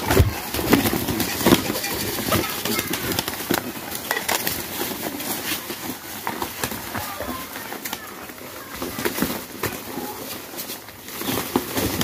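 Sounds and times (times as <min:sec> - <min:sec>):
pigeons flapping wings: 0:00.0 - 0:12.0
pigeons scuffling: 0:00.0 - 0:12.0.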